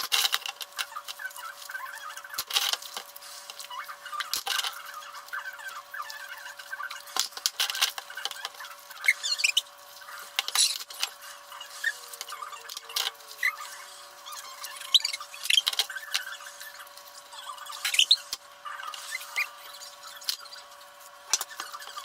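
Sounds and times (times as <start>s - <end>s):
high-pitched squeaks: 0.1s - 20.7s.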